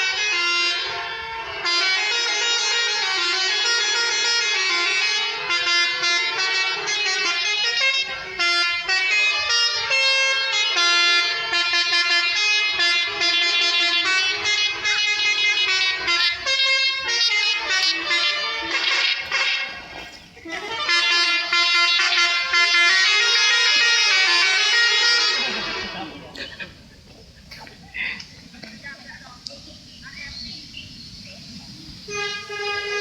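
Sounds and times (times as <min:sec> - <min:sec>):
bus horns playing a tune: 0:00.0 - 0:27.0, 0:31.9 - 0:33.0.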